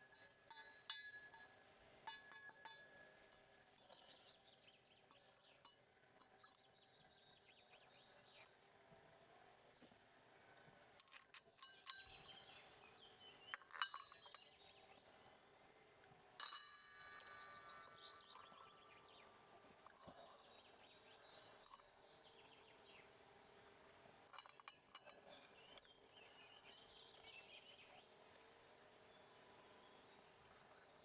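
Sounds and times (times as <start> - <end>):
faint metallic clinks: 0.0 - 8.5, 11.0 - 15.2, 16.3 - 31.0
quiet outdoor background: 0.0 - 31.0.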